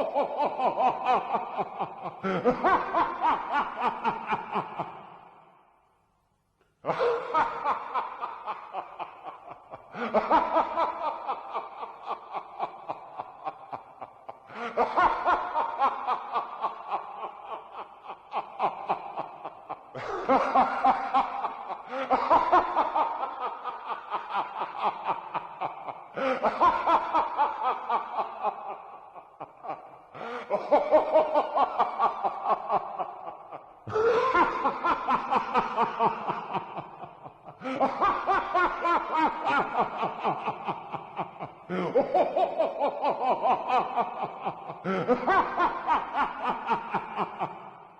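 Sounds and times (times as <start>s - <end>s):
evil laugh: 0.0s - 5.6s, 6.8s - 47.9s.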